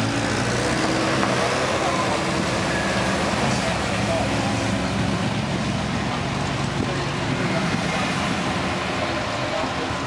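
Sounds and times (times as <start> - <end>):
cars driving slowly past: 0.0 - 10.0.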